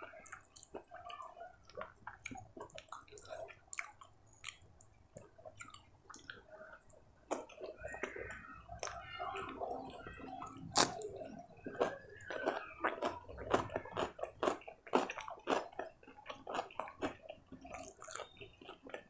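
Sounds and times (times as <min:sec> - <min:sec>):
close chewing with mouth smacks: 0:00.0 - 0:19.0.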